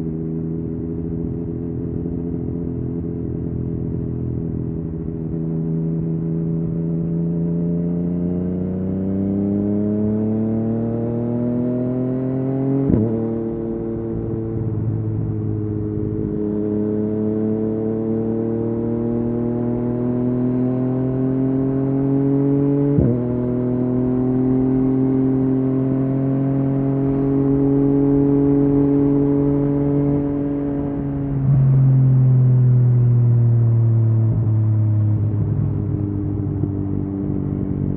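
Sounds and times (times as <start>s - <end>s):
motorcycle engine revving: 0.7s - 32.0s.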